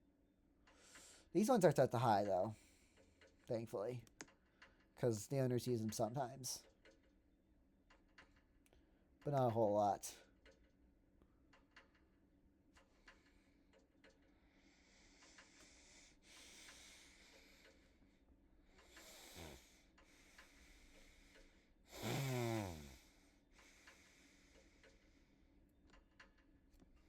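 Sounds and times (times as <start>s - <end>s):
ceiling fans humming and ticking: 0.4s - 27.0s.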